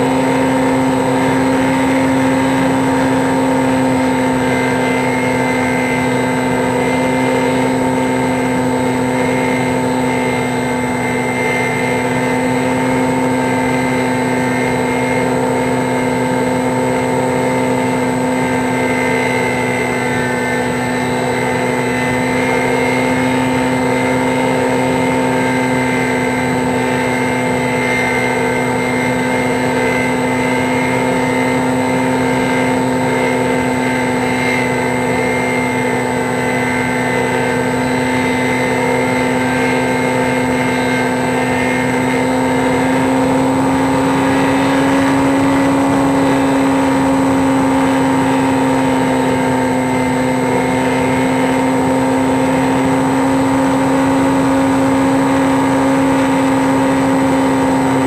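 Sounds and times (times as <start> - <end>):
mechanical drone with whine: 0.0 - 58.0.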